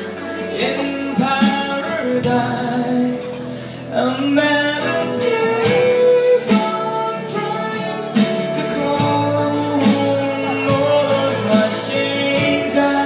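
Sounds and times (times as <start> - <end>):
person singing: 0.0 - 13.0
strummed acoustic guitar: 0.0 - 13.0.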